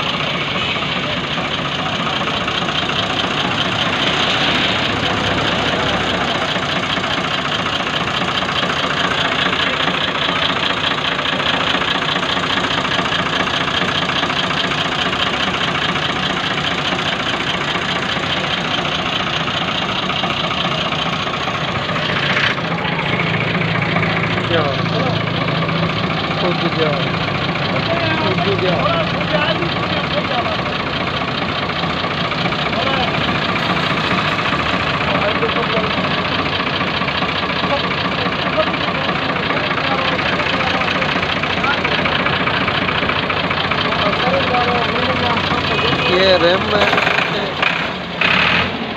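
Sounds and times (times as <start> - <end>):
tractor diesel engine idling: 0.0 - 48.9.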